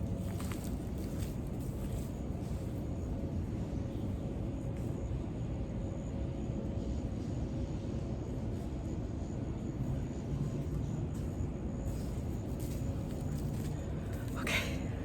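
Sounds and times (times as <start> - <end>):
faint steady hum: 0.0 - 15.0
low outdoor rumble: 0.0 - 15.0.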